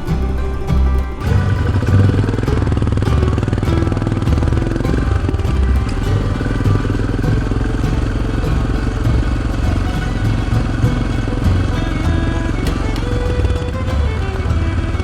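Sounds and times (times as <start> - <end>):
background music: 0.0 - 15.0
motorcycle engine running: 0.0 - 15.0.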